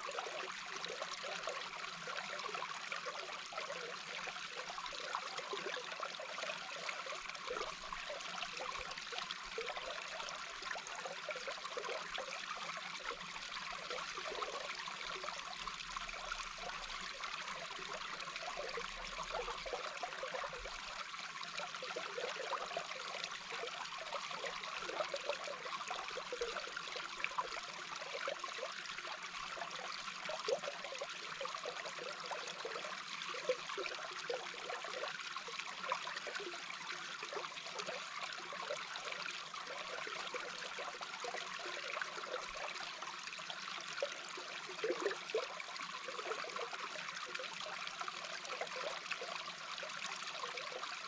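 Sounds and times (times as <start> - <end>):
underwater brook flowing and bubbling: 0.0 - 51.0.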